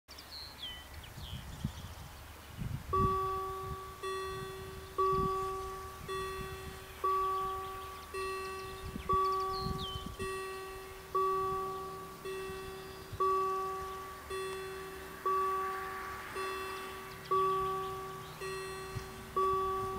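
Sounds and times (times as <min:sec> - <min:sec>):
level crossing warning bells: 0:02.9 - 0:19.9.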